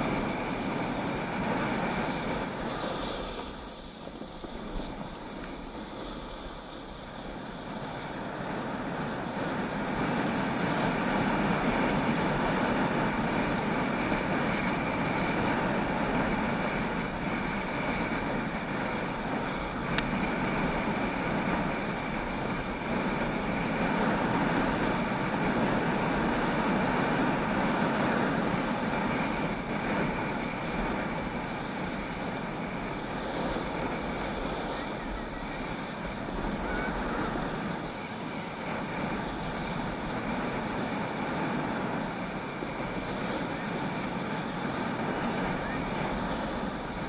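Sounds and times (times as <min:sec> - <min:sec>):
skis sliding over snow: 0:00.0 - 0:47.0
wind rushing over microphone: 0:00.0 - 0:47.0.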